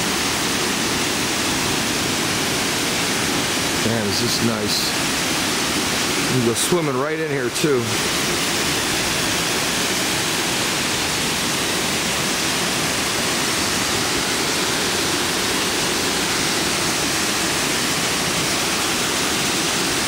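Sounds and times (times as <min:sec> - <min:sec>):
waterfall pouring into a pool: 0:00.0 - 0:20.0.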